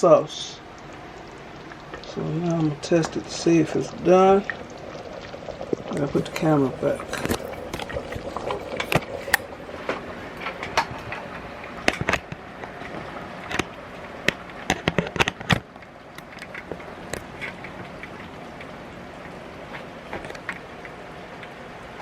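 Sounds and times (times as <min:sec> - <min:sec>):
sauce bubbling in kettle: 0:00.1 - 0:22.0.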